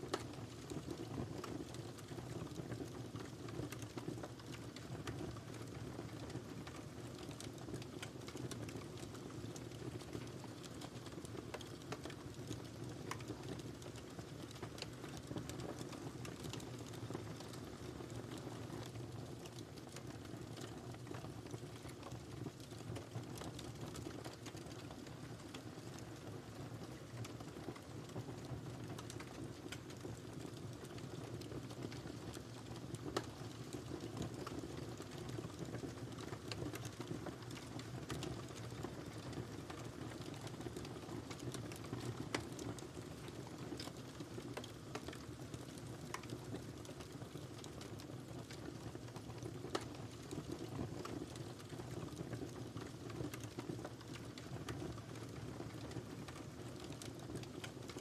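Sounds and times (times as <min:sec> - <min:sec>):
fire crackles and pops: 0:00.0 - 0:58.0
wood fire burning: 0:00.0 - 0:58.0.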